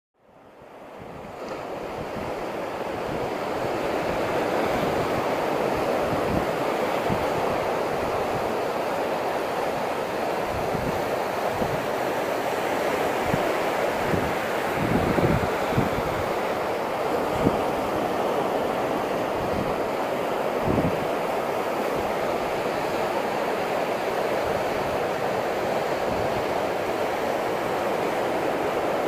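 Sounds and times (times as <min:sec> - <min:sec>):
wind buffeting microphone: 0:00.5 - 0:29.0
surf breaking on rocky shore: 0:00.6 - 0:29.0.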